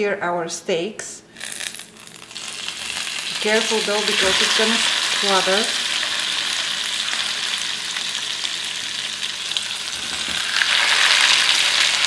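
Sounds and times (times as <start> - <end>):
steaks sizzling in a frying pan: 1.4 - 12.0.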